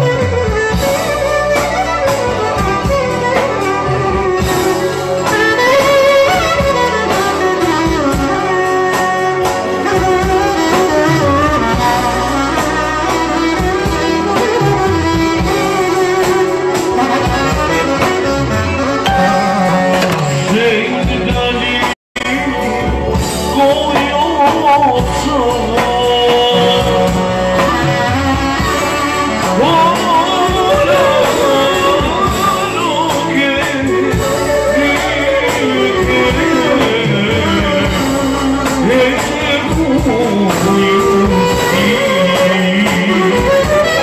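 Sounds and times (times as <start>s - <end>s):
band playing with clarinet melody: 0.0s - 44.0s.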